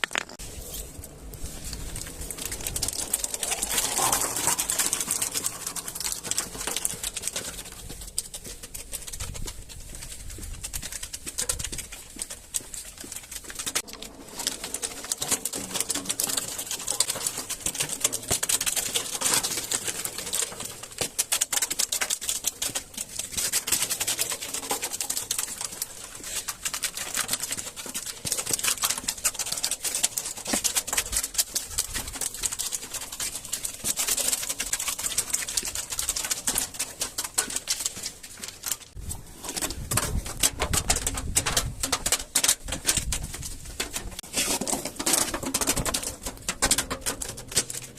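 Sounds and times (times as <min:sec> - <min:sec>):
crunchy things being crushed: 0:00.0 - 0:47.9.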